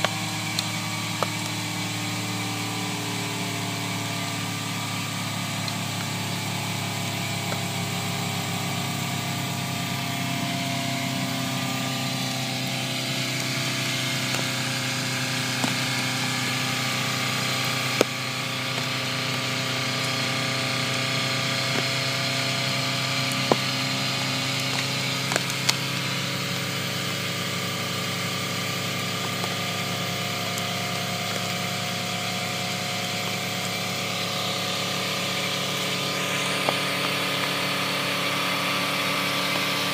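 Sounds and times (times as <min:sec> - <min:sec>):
hydraulic power unit engine: 0:00.0 - 0:39.9
rock cracking: 0:03.2 - 0:32.4, 0:35.4 - 0:39.8.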